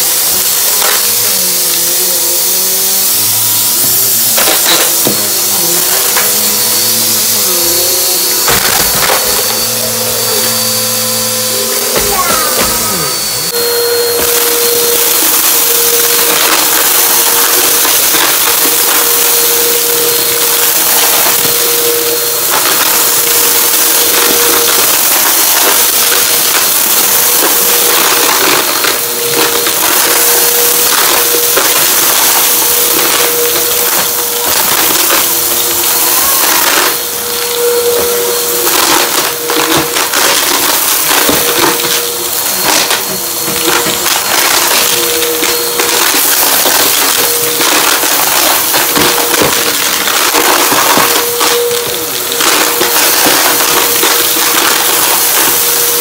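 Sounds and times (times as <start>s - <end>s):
debris rattling through nozzle: 0.0s - 56.0s
vacuum cleaner motor whine: 0.0s - 56.0s.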